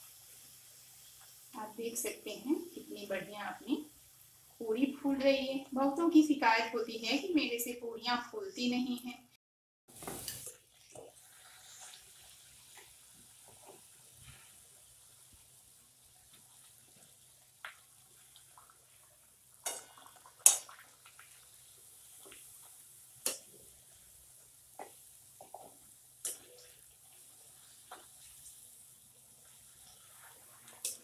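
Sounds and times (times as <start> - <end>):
food frying in hot oil: 0.0 - 7.9, 9.9 - 31.0.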